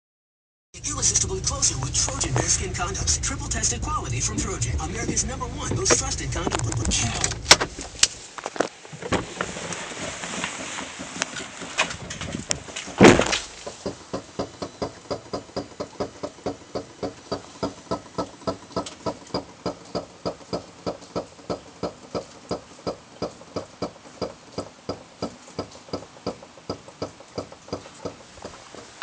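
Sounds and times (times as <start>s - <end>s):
vehicle creaking: 0.8s - 29.0s.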